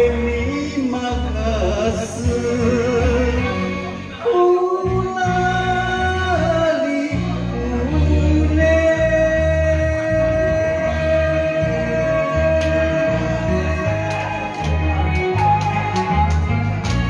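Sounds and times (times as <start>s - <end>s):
man singing into microphone: 0.0s - 15.1s
karaoke backing track: 0.0s - 17.0s.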